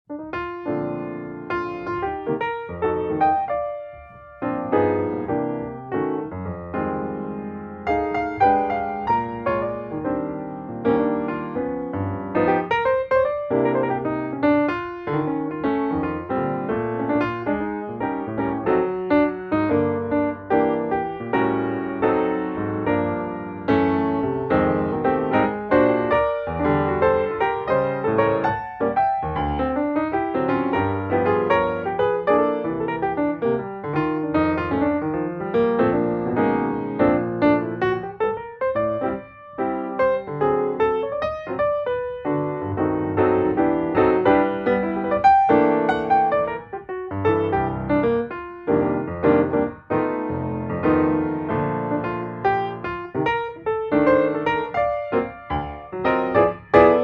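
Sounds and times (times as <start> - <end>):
piano chords and notes: 0.0 - 57.0.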